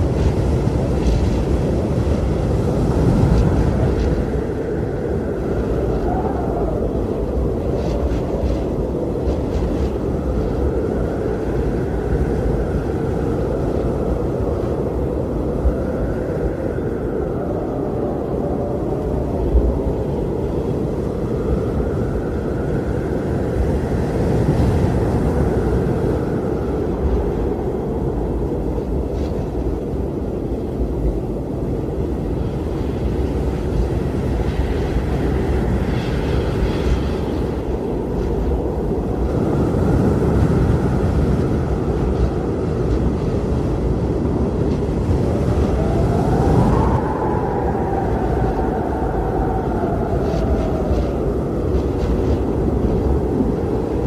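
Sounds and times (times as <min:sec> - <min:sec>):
blizzard wind roaring: 0:00.0 - 0:54.0.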